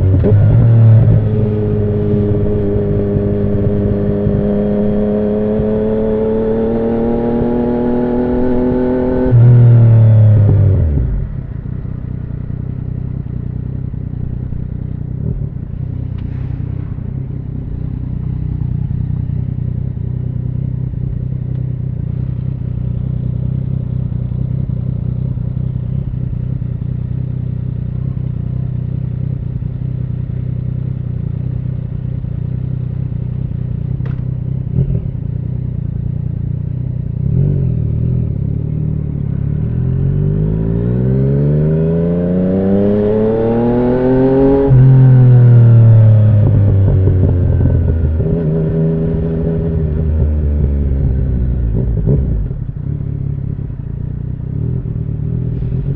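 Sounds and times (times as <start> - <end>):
motorcycle engine revving and idling: 0.0 - 55.9.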